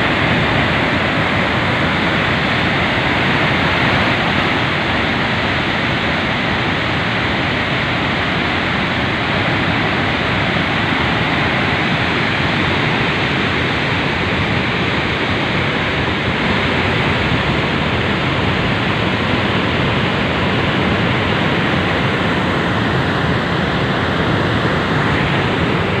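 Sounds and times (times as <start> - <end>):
water rushing through dam spillway: 0.0 - 26.0.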